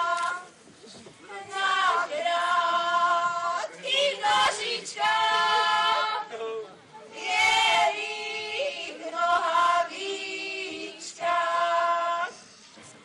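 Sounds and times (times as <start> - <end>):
women singing a cappella: 0.0 - 0.6, 1.2 - 6.4, 7.1 - 12.7.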